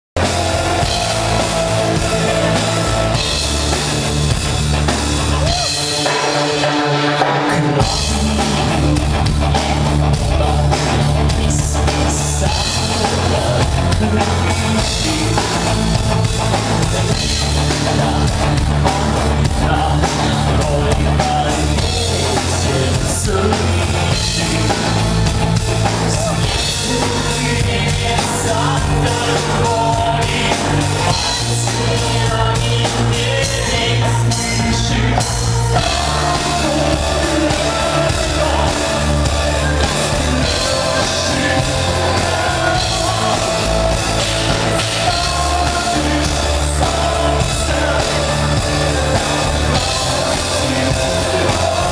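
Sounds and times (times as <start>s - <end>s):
heavy bass line: 0.0s - 6.8s, 7.5s - 51.9s
drum kit beat: 0.0s - 51.9s
person singing: 0.0s - 51.9s.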